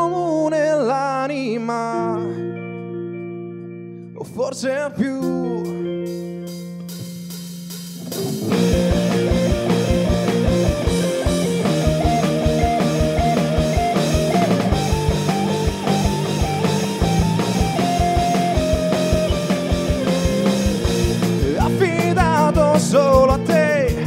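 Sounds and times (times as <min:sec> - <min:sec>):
guitar melody: 0:00.0 - 0:24.0
rock band playing: 0:02.1 - 0:24.0.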